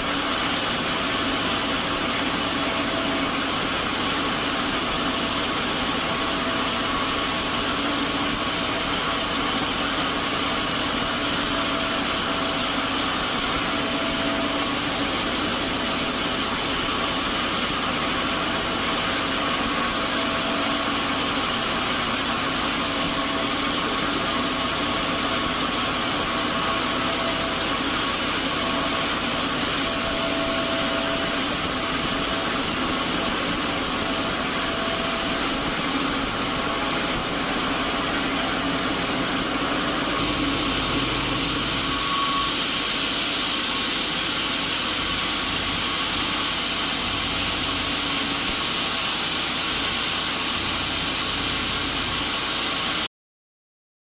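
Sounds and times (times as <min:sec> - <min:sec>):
woodworking machinery motor hum: 0:00.0 - 0:52.2.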